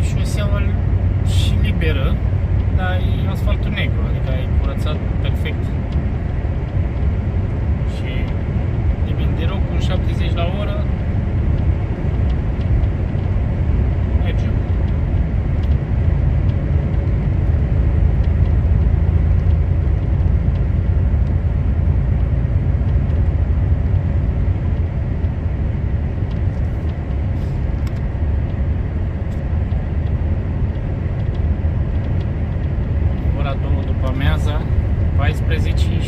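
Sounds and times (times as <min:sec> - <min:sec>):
heavy truck driving: 0:00.0 - 0:36.0.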